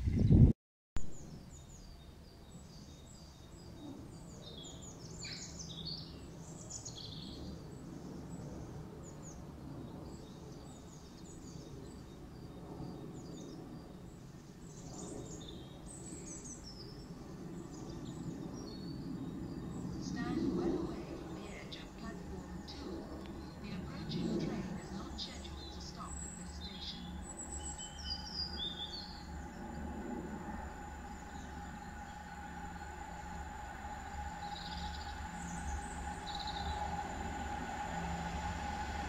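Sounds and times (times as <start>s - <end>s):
faint low outdoor rumble: 1.0s - 39.0s
songbirds chirping and singing: 1.2s - 39.0s.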